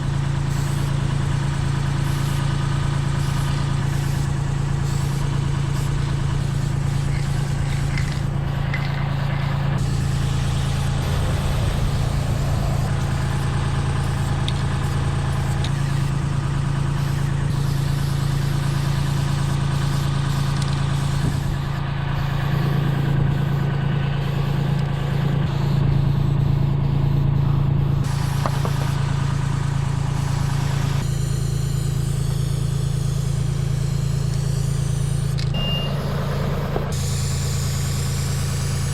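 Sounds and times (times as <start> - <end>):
spray paint can hissing: 0.0 - 21.8, 28.0 - 36.1, 36.9 - 38.9
engine running: 0.0 - 38.9.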